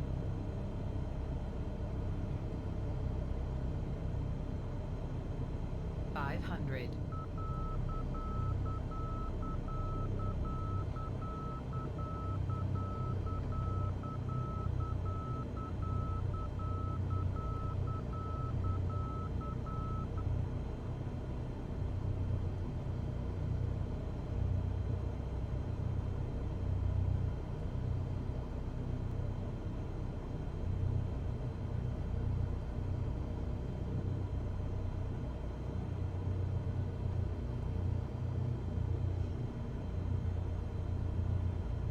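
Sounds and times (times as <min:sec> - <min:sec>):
airplane engine and propeller drone: 0:00.0 - 0:41.9.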